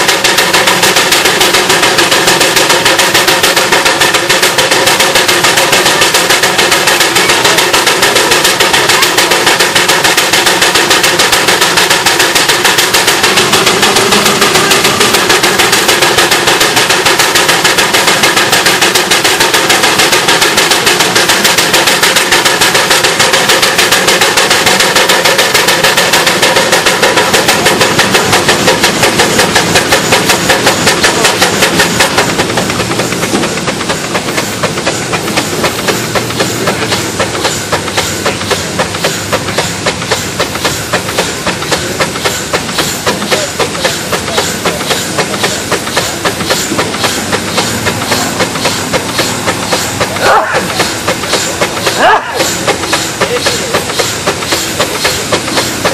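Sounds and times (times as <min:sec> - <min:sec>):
steam engine exhaust chuffing: 0:00.0 - 0:55.9.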